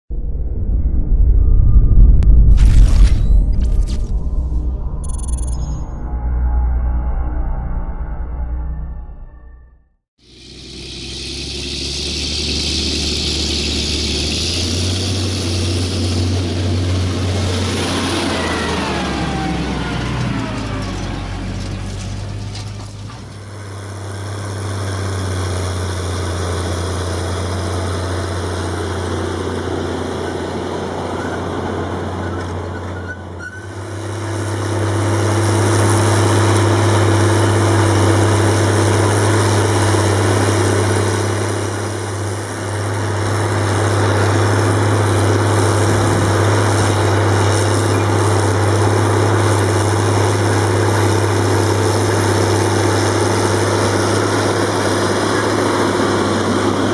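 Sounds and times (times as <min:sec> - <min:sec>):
tractor diesel engine running: 0:10.2 - 0:56.9.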